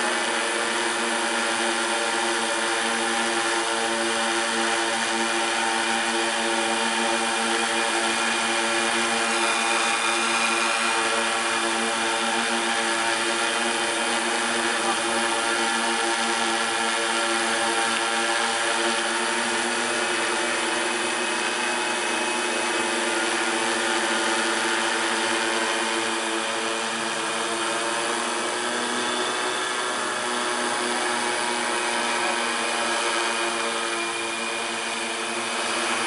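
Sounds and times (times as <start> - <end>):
drone propellers whirring: 0.0 - 36.0.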